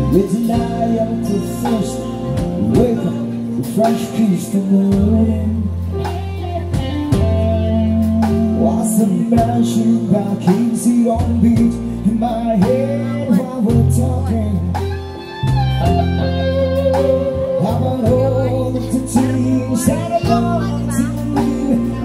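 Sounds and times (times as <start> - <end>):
man singing into microphone: 0.0 - 15.0, 16.9 - 22.0
live band playing: 0.0 - 22.0.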